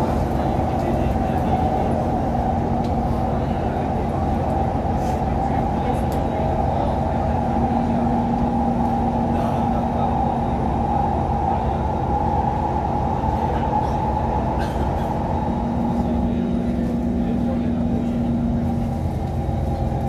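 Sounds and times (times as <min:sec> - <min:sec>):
constant low hum: 0:00.0 - 0:20.0
train wheels rumbling on rail: 0:00.0 - 0:20.0.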